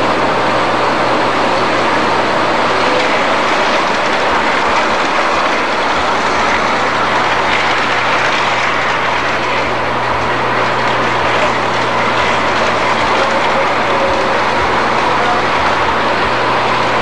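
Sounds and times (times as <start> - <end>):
model trains rolling on track: 0.0 - 17.0.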